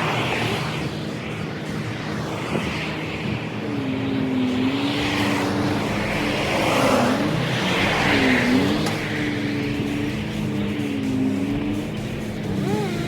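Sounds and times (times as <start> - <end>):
cars passing by: 0.0 - 13.0.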